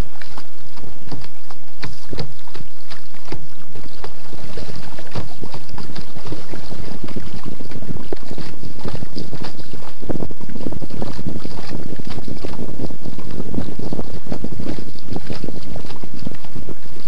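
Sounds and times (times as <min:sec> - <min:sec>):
paddle splashing water: 0:00.0 - 0:17.0
wind on microphone: 0:00.0 - 0:17.0.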